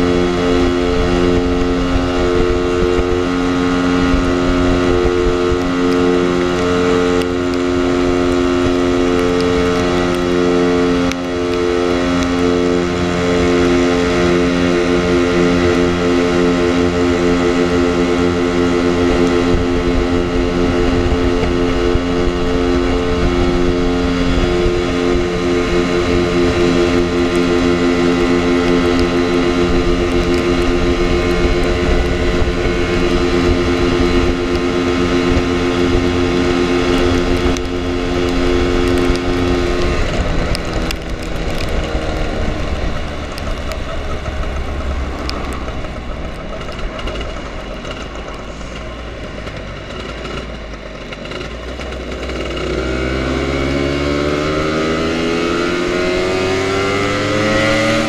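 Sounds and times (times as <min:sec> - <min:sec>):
scooter two-stroke engine running: 0:00.0 - 0:58.0
wind rumbling on microphone: 0:00.0 - 0:58.0.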